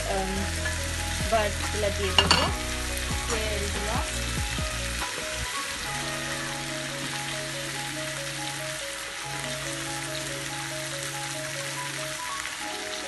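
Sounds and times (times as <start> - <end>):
background music with held notes: 0.0 - 13.0
masala sizzling in a frying pan: 0.0 - 13.0.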